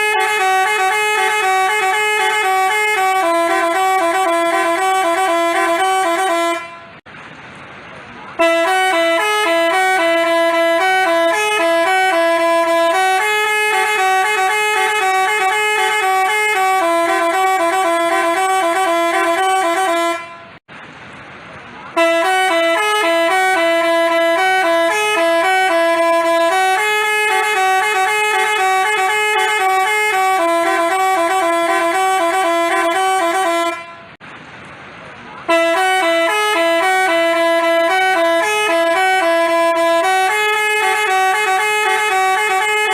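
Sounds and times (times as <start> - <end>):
multi-tone bus horn melody: 0.0 - 7.1, 8.3 - 20.7, 21.9 - 34.2, 35.4 - 42.9.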